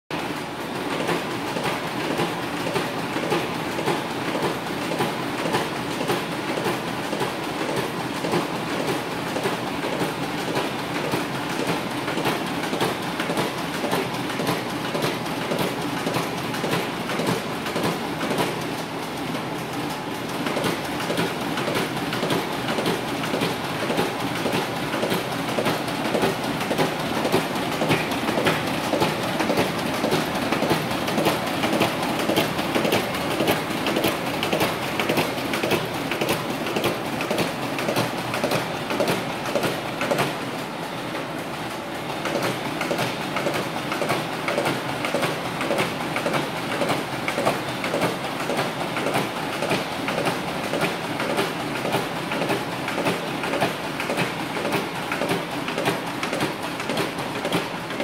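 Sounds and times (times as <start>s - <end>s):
pressure sealer machine running: 0.2s - 58.0s
rapid even clicking and clacking: 0.8s - 58.0s.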